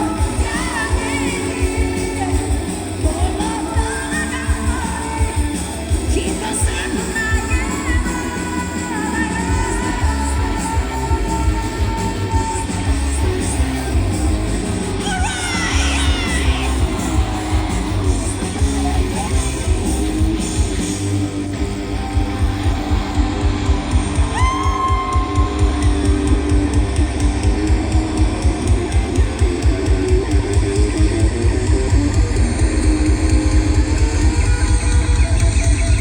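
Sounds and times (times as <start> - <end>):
bass guitar: 0.0 - 36.0
electric guitar: 0.0 - 36.0
steady drum beat: 0.0 - 36.0.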